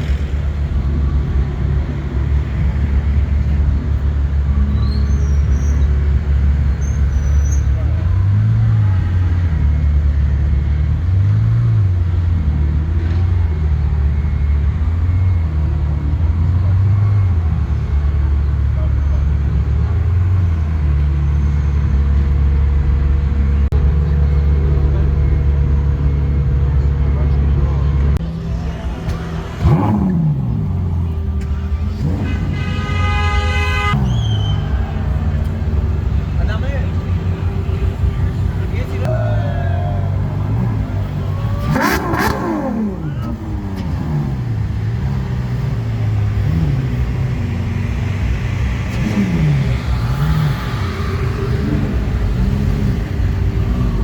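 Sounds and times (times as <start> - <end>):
car engines rumbling: 0.0 - 54.0.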